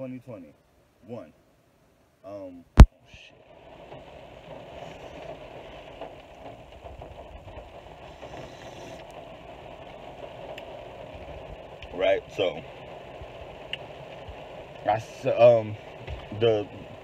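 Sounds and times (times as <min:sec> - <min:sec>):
rain on a car roof: 0:02.8 - 0:17.0.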